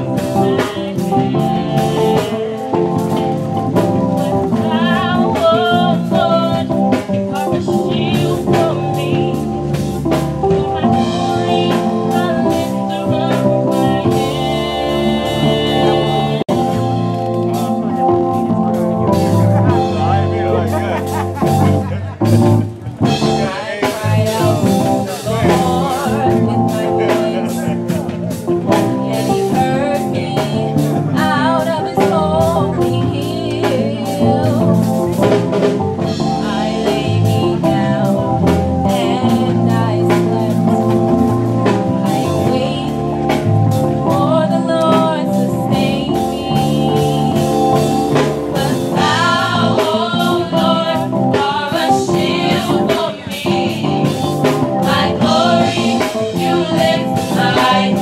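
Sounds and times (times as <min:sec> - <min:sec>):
group of people singing: 0:00.0 - 0:18.0, 0:23.0 - 0:58.0
live band with electric guitar: 0:00.0 - 0:58.0.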